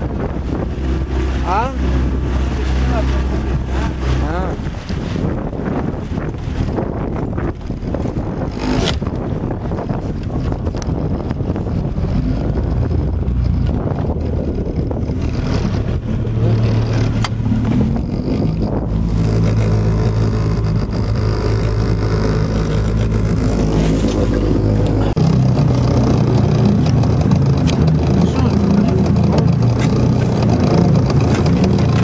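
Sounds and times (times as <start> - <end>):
boat motor running: 0.0 - 32.0
water noise: 0.0 - 32.0
wind: 0.0 - 32.0.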